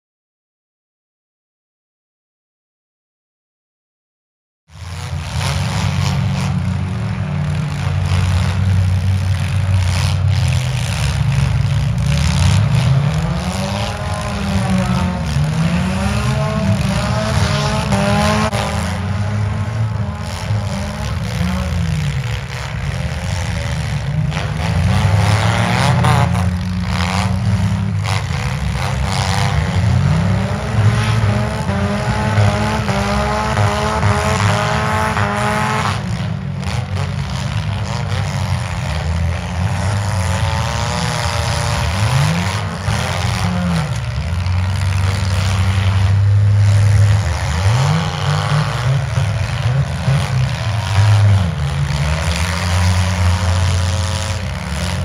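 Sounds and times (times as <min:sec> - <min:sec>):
car engines revving: 0:04.7 - 0:55.0.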